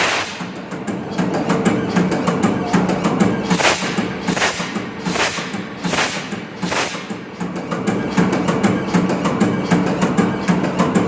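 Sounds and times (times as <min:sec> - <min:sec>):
diesel engine knocking: 0:00.2 - 0:11.0.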